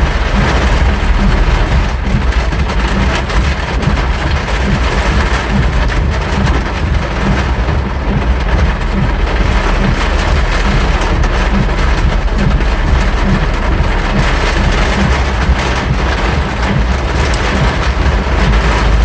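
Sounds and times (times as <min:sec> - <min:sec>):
car driving through water: 0:00.0 - 0:19.0
heavy rain on car roof: 0:00.0 - 0:19.0.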